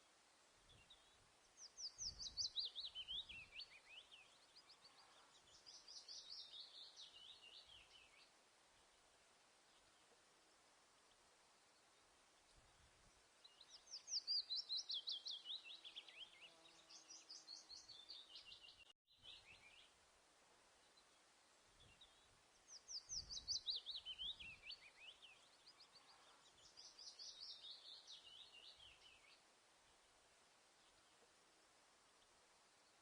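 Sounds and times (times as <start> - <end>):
songbird high chirping: 0.0 - 20.0, 20.7 - 33.0.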